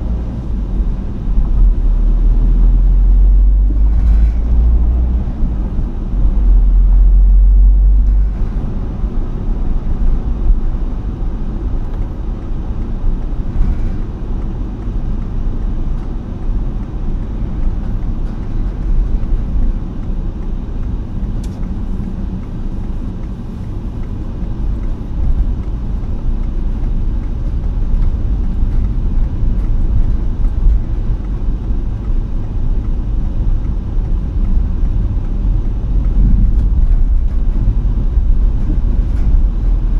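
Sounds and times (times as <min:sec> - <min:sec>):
low rumble with rushing noise: 0:00.0 - 0:39.9.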